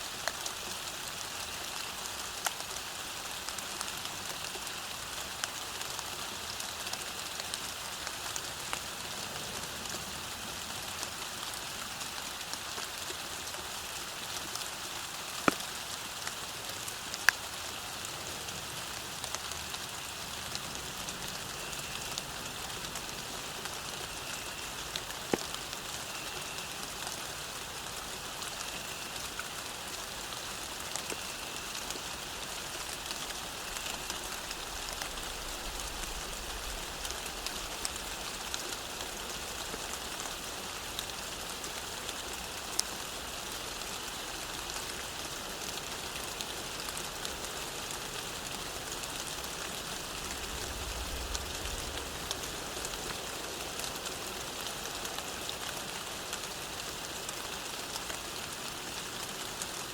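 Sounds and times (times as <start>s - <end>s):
rain falling on a path: 0.0s - 59.9s.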